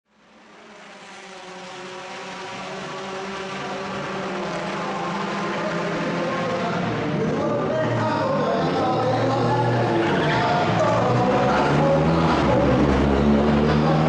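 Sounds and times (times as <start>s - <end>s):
race car engine humming: 0.1s - 14.0s.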